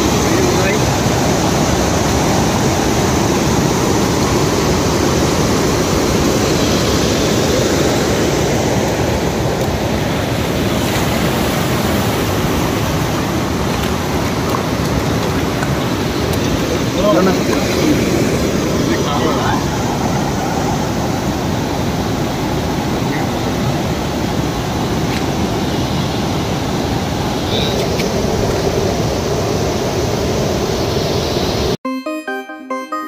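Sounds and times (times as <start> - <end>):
river flowing: 0.0 - 31.8.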